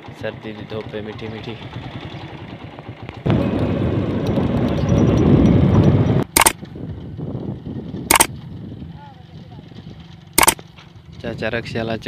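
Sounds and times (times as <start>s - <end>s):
rough rushing and rumbling noise: 1.5s - 11.8s.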